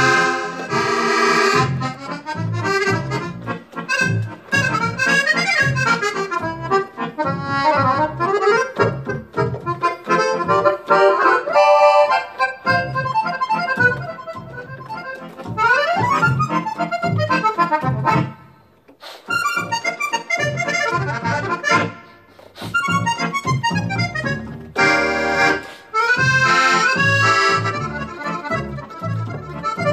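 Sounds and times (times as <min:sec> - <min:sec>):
accordion playing fast tune: 0:00.0 - 0:29.9.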